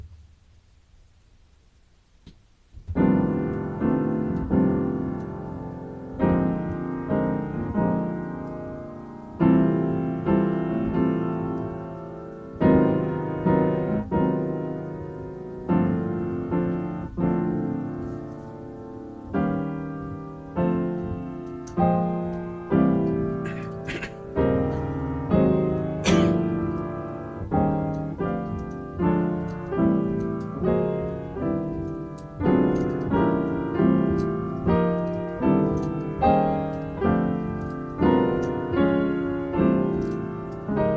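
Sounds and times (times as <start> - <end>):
solo piano chords: 2.6 - 40.9.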